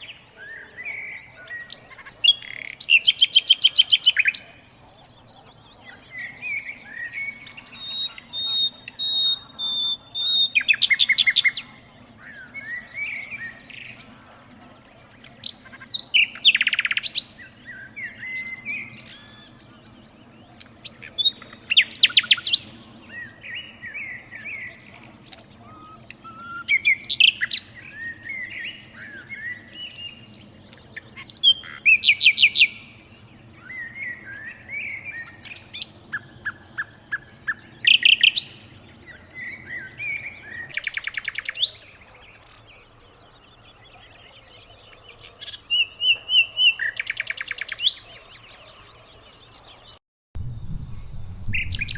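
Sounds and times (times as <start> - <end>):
bird singing: 0.0 - 51.9.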